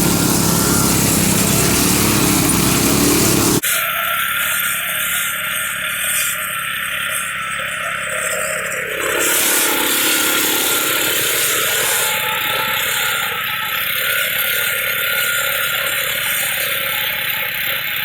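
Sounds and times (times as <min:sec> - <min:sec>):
rototiller running: 0:00.0 - 0:18.0.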